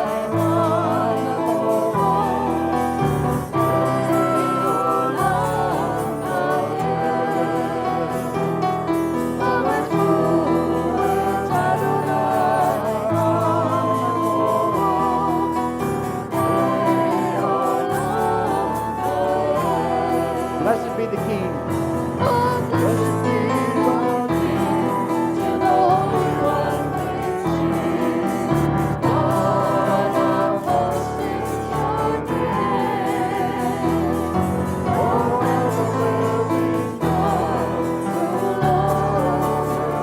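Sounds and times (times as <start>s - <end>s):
instrumental accompaniment: 0.0s - 40.0s
voices singing praise song: 0.0s - 40.0s.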